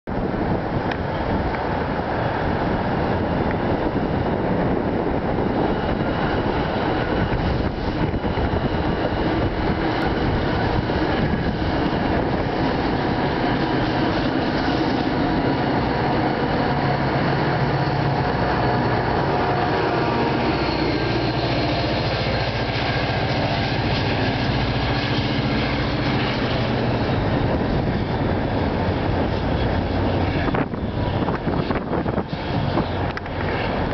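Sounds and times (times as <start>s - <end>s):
diesel locomotive engine drone: 0.1s - 33.9s
train wheels rumbling on track: 0.1s - 33.9s.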